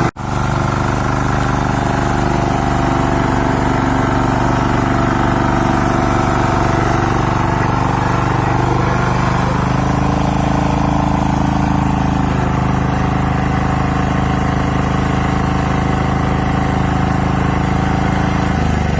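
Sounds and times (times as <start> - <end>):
petrol engine running: 0.0 - 18.9.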